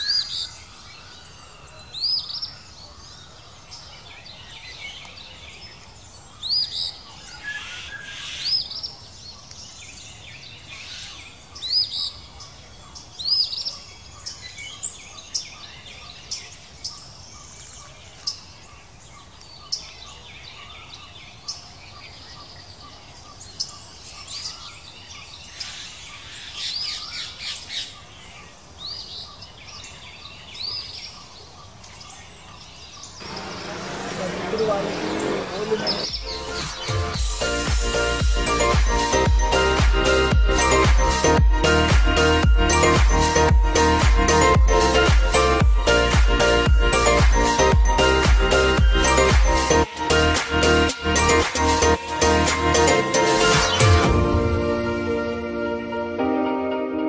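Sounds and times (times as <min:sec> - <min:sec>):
birds chirping: 0:00.0 - 0:54.8
outdoor background noise: 0:00.0 - 0:55.0.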